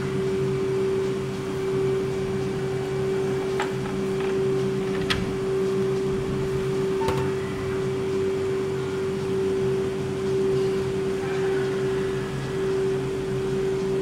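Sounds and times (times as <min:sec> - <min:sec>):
ice cream machine humming: 0:00.0 - 0:14.0.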